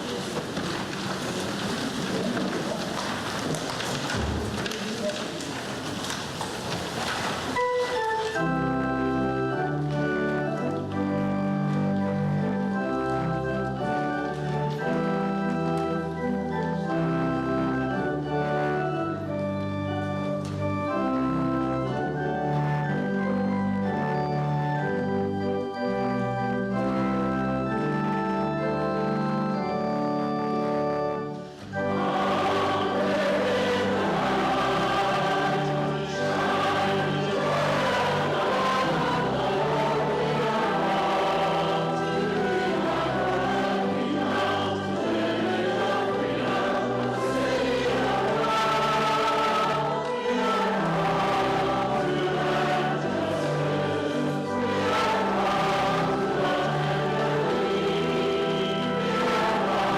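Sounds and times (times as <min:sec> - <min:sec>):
congregation singing a hymn: 0:00.0 - 0:01.6, 0:07.5 - 0:59.9
organ holding a chord: 0:07.6 - 0:59.9.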